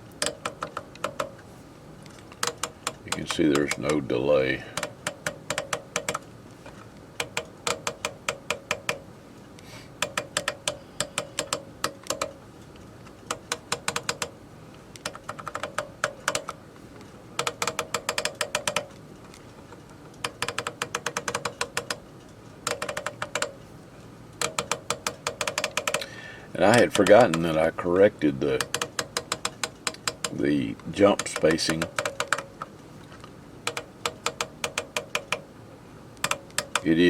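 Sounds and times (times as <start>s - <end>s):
radio frequency selector clicks: 0.2s - 1.4s, 2.1s - 9.0s, 10.0s - 12.3s, 13.3s - 14.4s, 15.0s - 16.6s, 17.4s - 19.4s, 20.1s - 22.0s, 22.6s - 23.6s, 24.4s - 35.4s, 36.2s - 37.0s.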